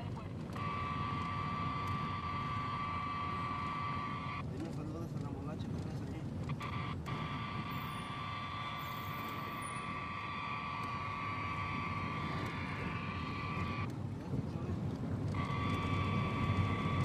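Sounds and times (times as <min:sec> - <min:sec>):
radio high whine and hiss: 0:00.0 - 0:13.9, 0:15.3 - 0:17.0
continuous low rumble: 0:00.0 - 0:17.0.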